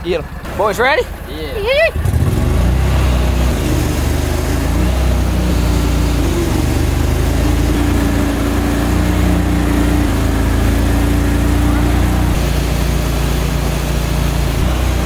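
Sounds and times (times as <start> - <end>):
vehicle engine running: 0.0 - 15.0
water churning: 0.5 - 15.0.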